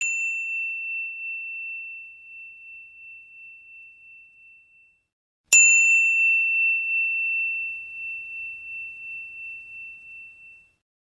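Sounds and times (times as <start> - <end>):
high bell note ringing: 0.0 - 10.8.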